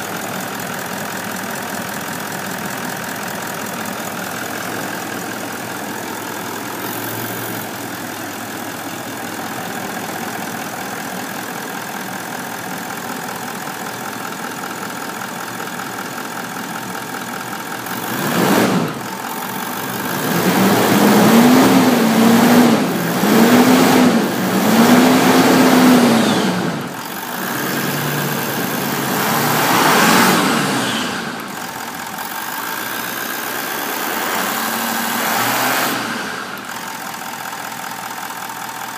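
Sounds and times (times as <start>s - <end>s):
diesel engine idling and revving: 0.0s - 38.9s.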